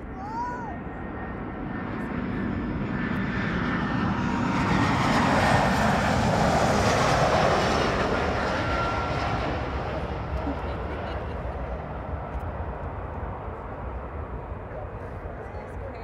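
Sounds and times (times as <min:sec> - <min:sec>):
jet airliner rumble and whine: 0:00.0 - 0:16.0.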